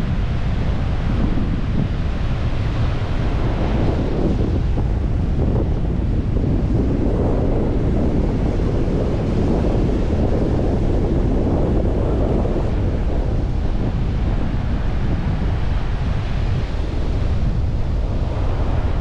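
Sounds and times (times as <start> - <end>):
ocean surf: 0.0 - 7.0, 7.6 - 19.0
wind buffeting microphone: 0.0 - 19.0.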